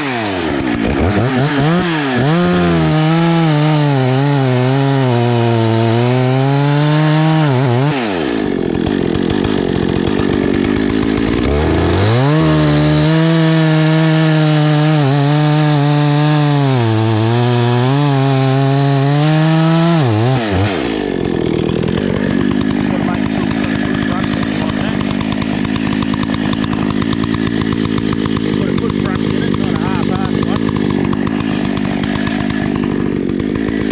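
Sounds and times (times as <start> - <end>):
chainsaw cutting through tree: 0.0 - 33.9.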